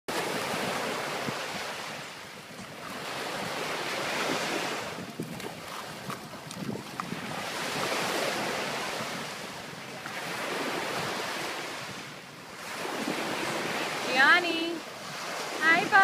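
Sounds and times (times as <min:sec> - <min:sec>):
small waves breaking on shore: 0:00.1 - 0:16.0.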